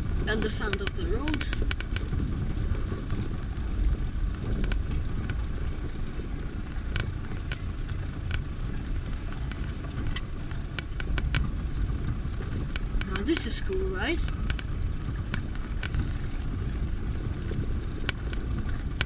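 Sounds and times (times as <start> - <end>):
handling noise clicks and scratches: 0.0 - 13.6, 14.2 - 19.0
vehicle rumble on dirt road: 0.0 - 19.0.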